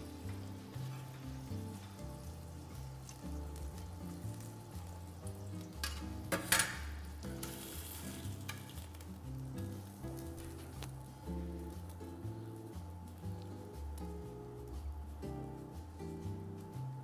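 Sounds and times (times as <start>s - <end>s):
background music with bass line: 0.0s - 17.0s.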